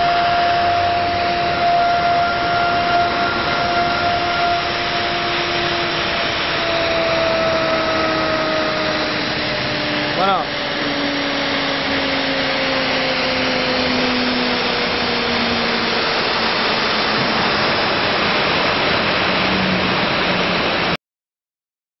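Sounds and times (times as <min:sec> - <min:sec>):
cnc router spindle cutting: 0:00.0 - 0:21.0.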